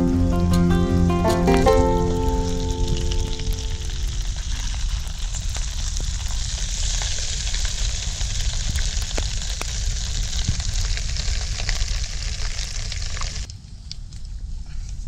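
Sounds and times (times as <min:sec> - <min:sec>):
fire pops and crackles: 0:00.0 - 0:14.4
pot boiling with sizzling hiss: 0:01.8 - 0:14.5.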